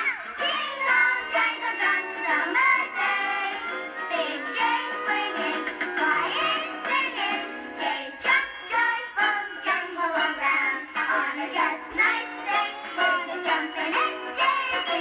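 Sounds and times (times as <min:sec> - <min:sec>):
children singing with music: 0:00.0 - 0:15.0.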